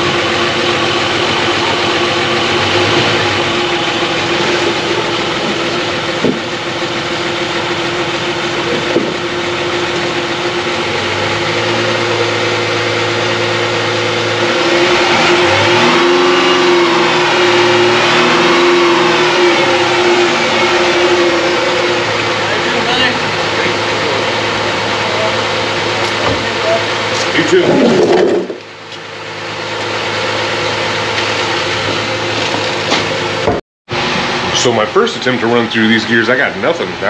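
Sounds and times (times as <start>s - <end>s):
car engine idling: 0.0s - 37.0s
engine revving: 0.0s - 37.0s.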